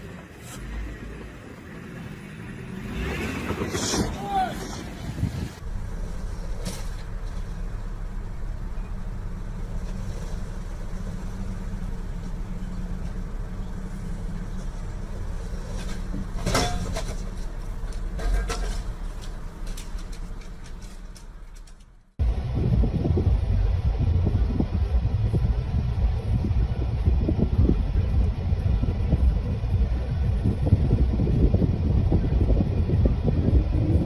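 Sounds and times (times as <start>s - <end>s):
motor vehicle rumbling: 0.0s - 34.0s.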